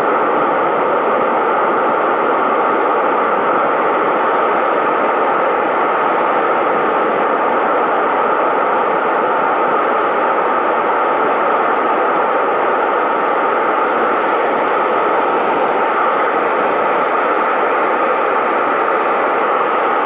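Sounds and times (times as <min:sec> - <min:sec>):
furnace burner roaring: 0:00.0 - 0:20.0.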